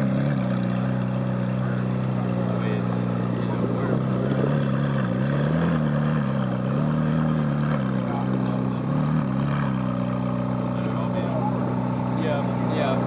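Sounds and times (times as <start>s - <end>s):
sports car engine idling: 0.0s - 13.0s.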